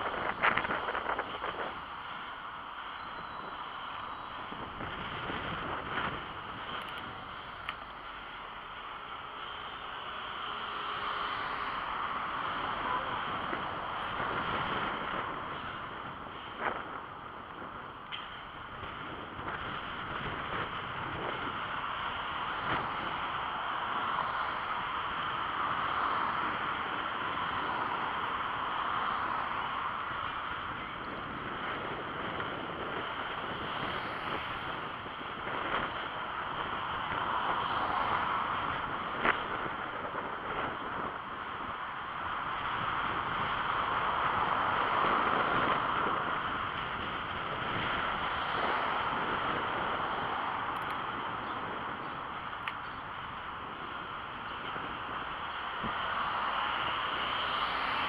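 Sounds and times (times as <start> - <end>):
tyre and road rumble: 0.0 - 58.0
wind buffeting microphone: 0.0 - 58.0.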